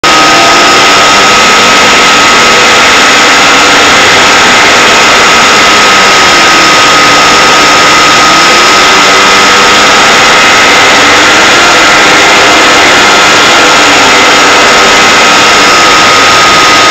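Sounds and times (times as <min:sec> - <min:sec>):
high-pitched whine: 0:00.0 - 0:16.9
loud steady hiss: 0:00.0 - 0:16.9.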